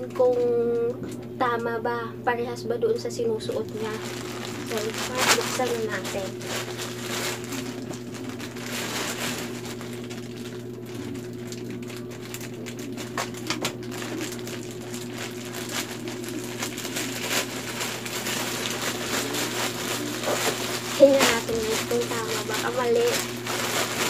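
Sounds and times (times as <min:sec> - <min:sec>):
steady low hum: 0:00.0 - 0:24.0
plastic bag crinkling: 0:03.1 - 0:24.0.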